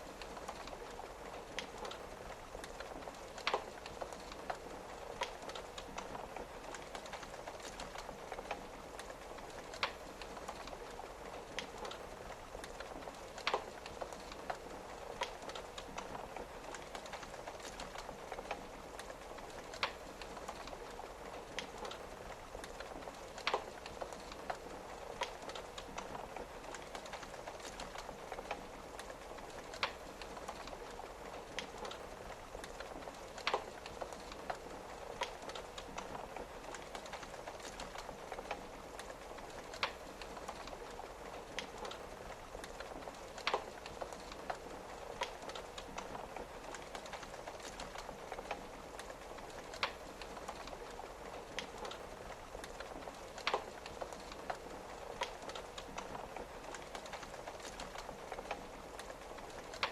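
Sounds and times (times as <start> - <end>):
rain pattering: 0.0 - 59.9
wood fire crackling and popping: 0.0 - 59.9.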